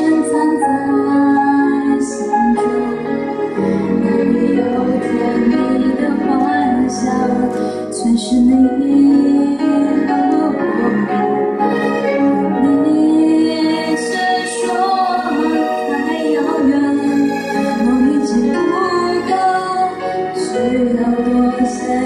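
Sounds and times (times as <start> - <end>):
woman singing pop ballad: 0.0 - 2.7, 4.7 - 11.2, 12.6 - 22.0
musical accompaniment: 0.0 - 22.0.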